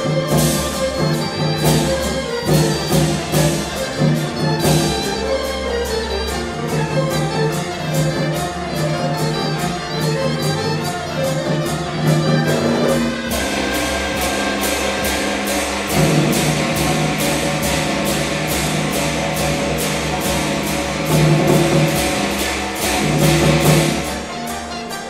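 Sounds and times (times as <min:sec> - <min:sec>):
large drums and gongs beating: 0:00.0 - 0:25.0
traditional orchestra playing: 0:00.0 - 0:25.0.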